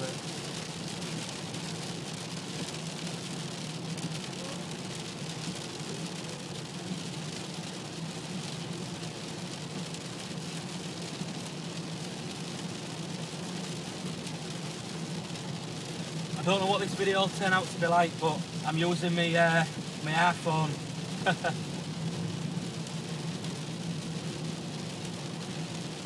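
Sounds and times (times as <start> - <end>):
car engine and tyre hum: 0.0 - 26.0
rain and spray hiss: 0.0 - 26.0.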